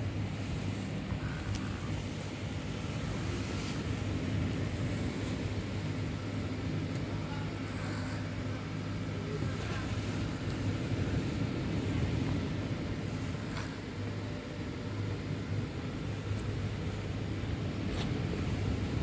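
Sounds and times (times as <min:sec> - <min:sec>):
background rumble: 0:00.0 - 0:19.0
low mechanical hum: 0:00.0 - 0:19.0.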